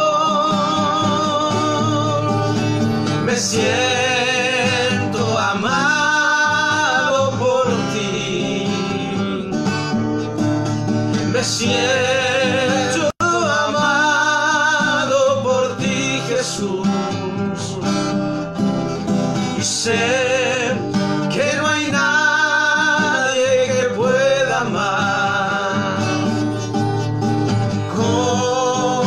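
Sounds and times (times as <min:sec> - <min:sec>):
men singing: 0:00.0 - 0:09.8, 0:11.1 - 0:18.2, 0:19.5 - 0:26.8, 0:27.6 - 0:29.0
acoustic guitar: 0:00.0 - 0:29.0.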